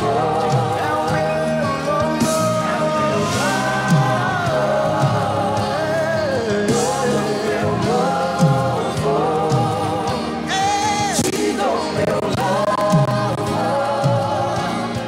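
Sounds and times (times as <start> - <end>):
group of singers singing: 0.0 - 15.0
worship band playing: 0.0 - 15.0.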